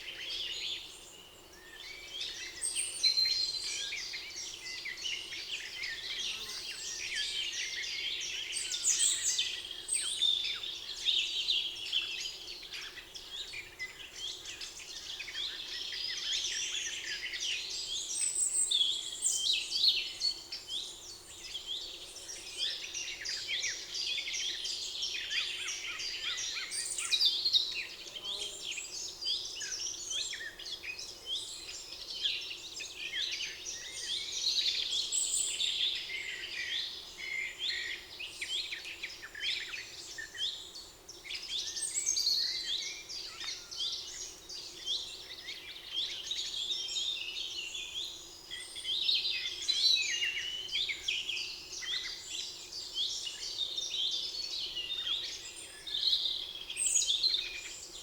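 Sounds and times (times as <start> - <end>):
songbirds chorus: 0.0 - 58.0.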